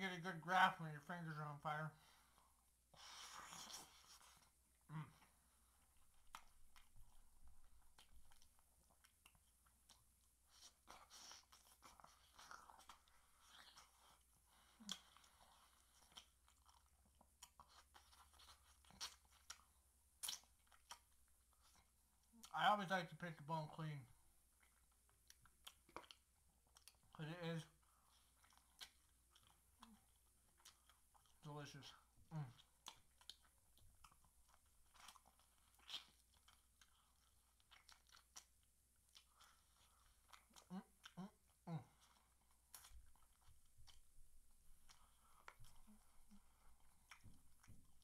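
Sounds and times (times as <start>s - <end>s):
chewing fried chicken: 0.3s - 48.0s.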